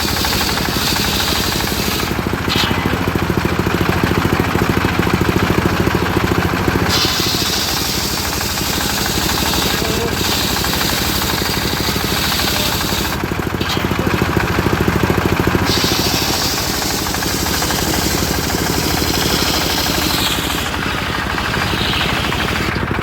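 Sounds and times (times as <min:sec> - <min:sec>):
saw blade cutting wood hiss: 0:00.0 - 0:04.0, 0:06.8 - 0:22.9
sawmill engine running: 0:00.0 - 0:23.0.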